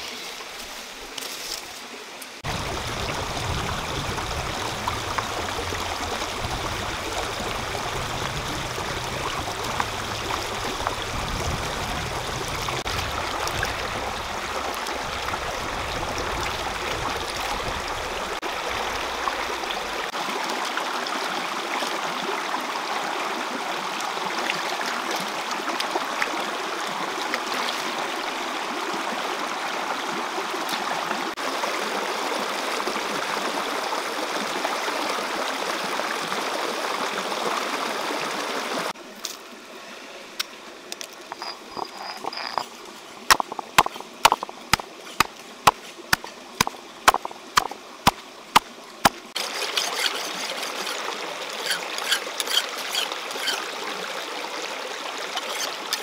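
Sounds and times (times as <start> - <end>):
stream rippling over stones: 0.0 - 56.0.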